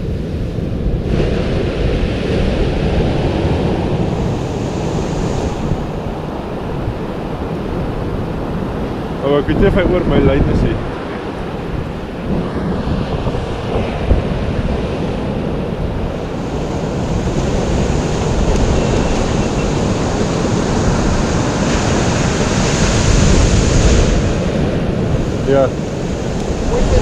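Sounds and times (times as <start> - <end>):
surf breaking on beach: 0.0 - 27.0
wind buffeting microphone: 0.0 - 27.0.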